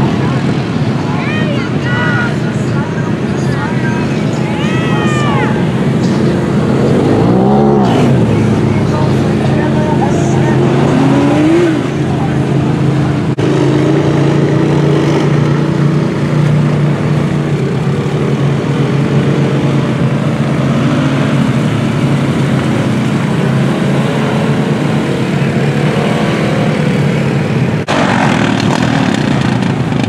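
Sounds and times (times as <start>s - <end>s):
engine running hard under load: 0.0s - 30.0s
vehicle churning through mud: 0.0s - 30.0s.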